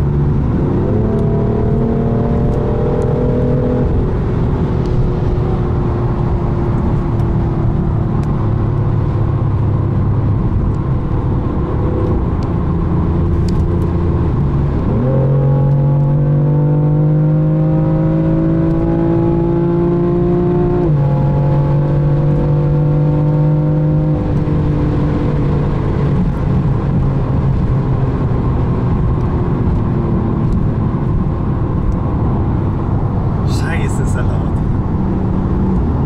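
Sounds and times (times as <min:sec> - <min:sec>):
car engine accelerating hard: 0:00.0 - 0:36.0
wind and tyre noise: 0:00.0 - 0:36.0.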